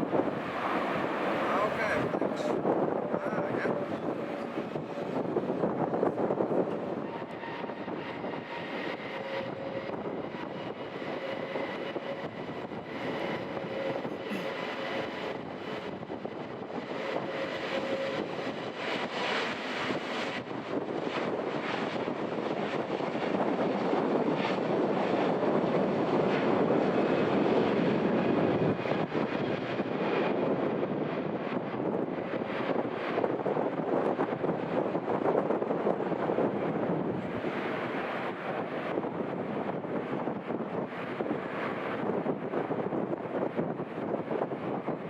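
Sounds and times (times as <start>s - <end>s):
jet airliner passing: 0.0s - 45.0s.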